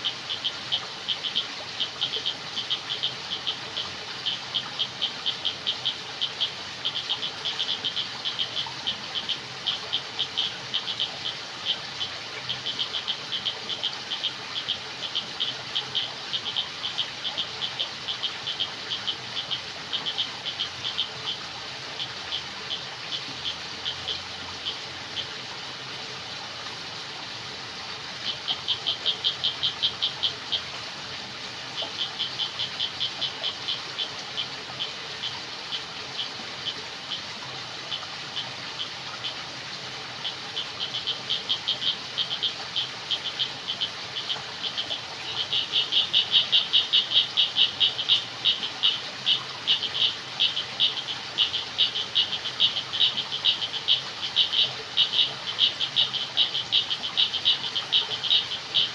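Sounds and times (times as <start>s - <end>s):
frogs calling with clicking pulses: 0.0s - 26.8s, 27.6s - 58.9s
steady background hiss: 0.0s - 58.9s.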